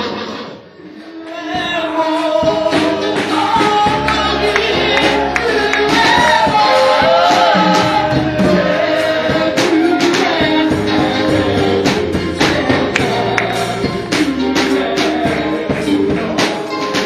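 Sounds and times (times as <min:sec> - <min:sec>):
worship band playing: 0:00.0 - 0:17.0.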